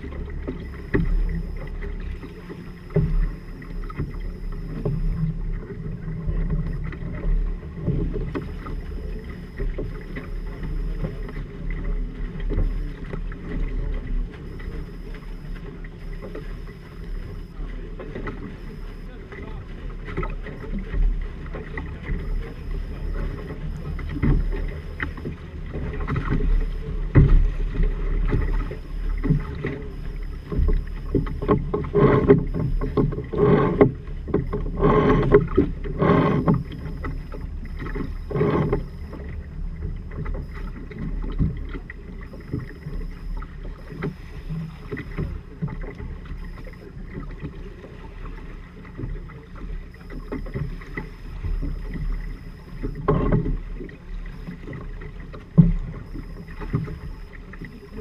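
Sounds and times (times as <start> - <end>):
water splashing along a hull: 0.0 - 58.0.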